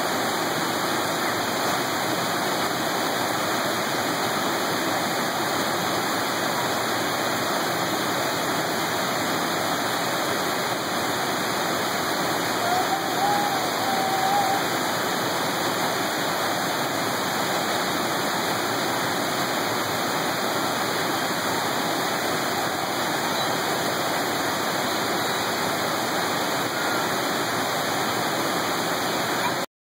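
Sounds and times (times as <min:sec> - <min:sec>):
water pouring over a spillway: 0:00.0 - 0:29.6.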